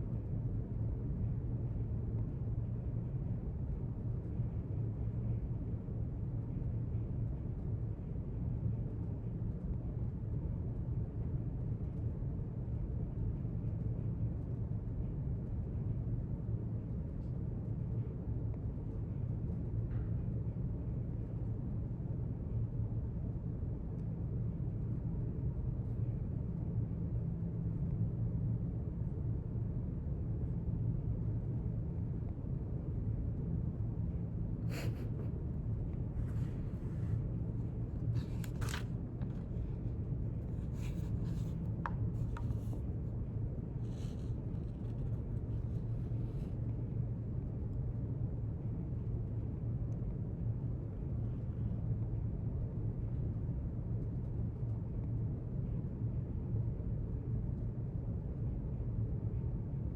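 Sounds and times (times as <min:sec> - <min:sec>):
low room rumble: 0:00.0 - 0:59.9.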